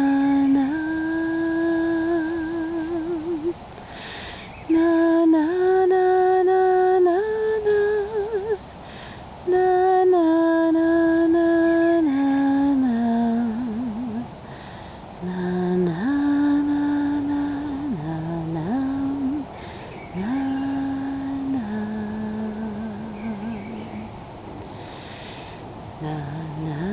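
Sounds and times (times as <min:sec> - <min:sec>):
woman humming a lullaby: 0:00.0 - 0:03.6, 0:04.6 - 0:08.6, 0:09.5 - 0:14.3, 0:15.2 - 0:19.5, 0:20.1 - 0:24.1, 0:26.0 - 0:26.9.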